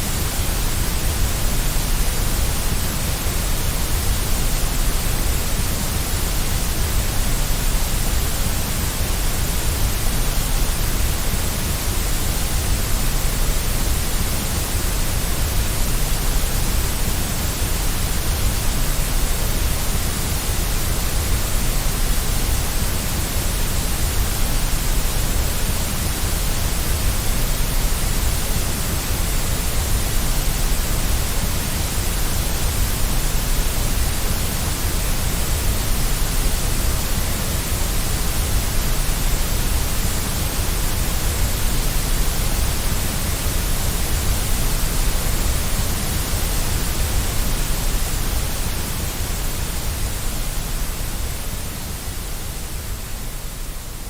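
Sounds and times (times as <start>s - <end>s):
white noise hiss with low rumble: 0.0s - 54.0s.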